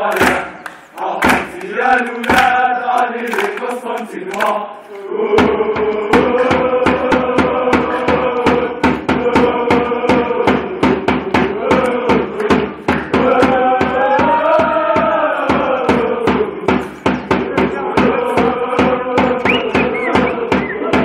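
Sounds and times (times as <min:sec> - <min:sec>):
crowd chanting in unison: 0:00.0 - 0:21.0
drum beating: 0:01.2 - 0:02.6, 0:05.3 - 0:21.0.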